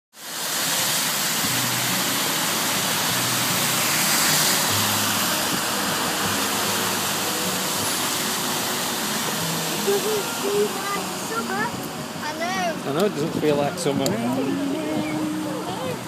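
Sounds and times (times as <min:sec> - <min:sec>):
vehicles splashing through floodwater: 0:00.2 - 0:16.0
low engine noise: 0:00.4 - 0:16.0.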